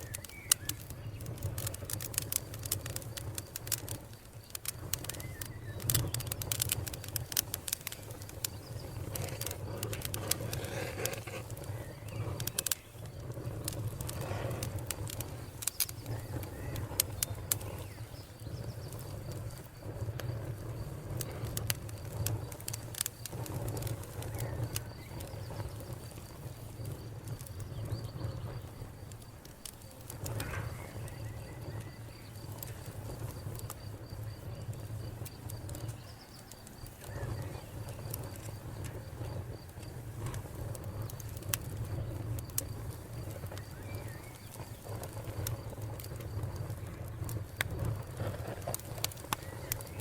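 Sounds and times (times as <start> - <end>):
logs crackling and popping: 0.0 - 50.0
low rumble of flame: 0.0 - 50.0.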